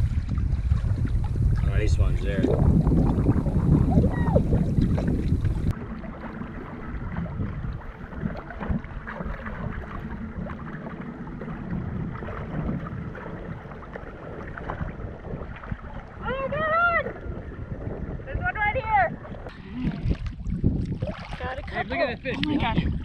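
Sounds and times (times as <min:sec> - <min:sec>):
water sloshing at boat side: 0:00.0 - 0:23.0
water splashing and lapping: 0:00.0 - 0:23.0
wind buffeting microphone: 0:00.0 - 0:23.0.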